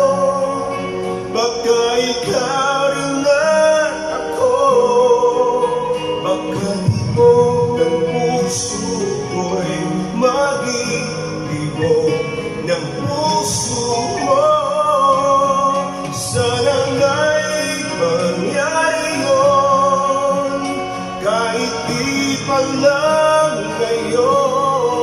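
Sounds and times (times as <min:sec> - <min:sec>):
backing track: 0:00.0 - 0:25.0
man singing into a microphone: 0:00.0 - 0:25.0.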